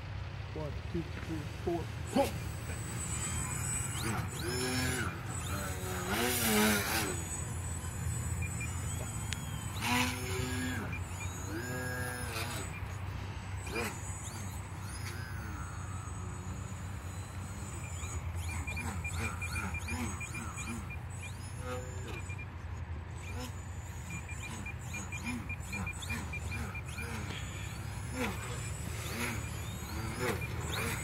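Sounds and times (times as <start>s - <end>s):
electric motor and propeller revving: 0.0s - 31.0s.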